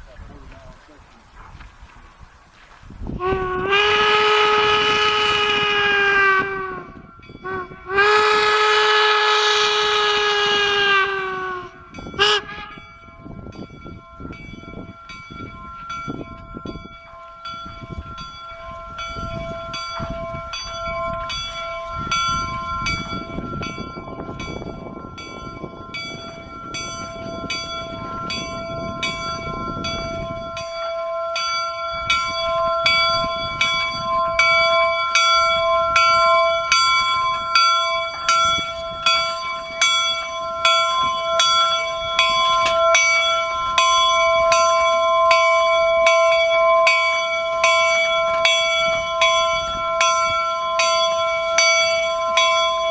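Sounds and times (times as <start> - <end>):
train rumble: 0.0 - 52.9
locomotive bell ringing: 3.1 - 52.9.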